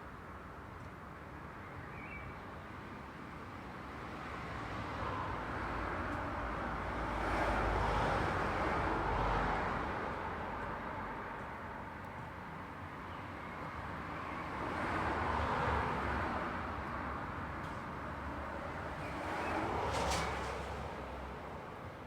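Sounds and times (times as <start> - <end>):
road traffic noise: 2.8 - 22.0.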